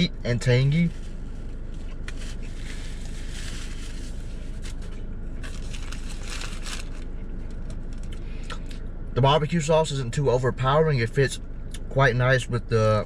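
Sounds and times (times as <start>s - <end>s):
car cabin low hum: 0.0s - 13.0s.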